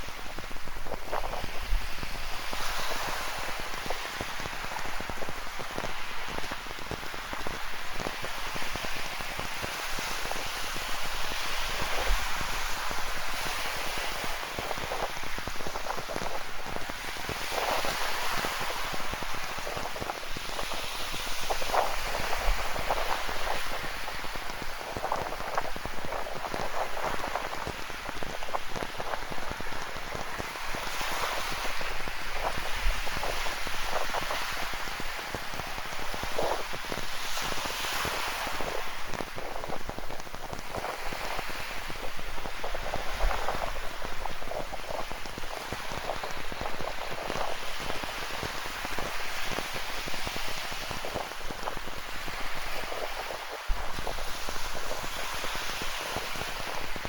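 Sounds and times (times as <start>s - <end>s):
ocean surf washing in: 0.0s - 57.0s
rain pattering on a surface: 0.0s - 57.0s.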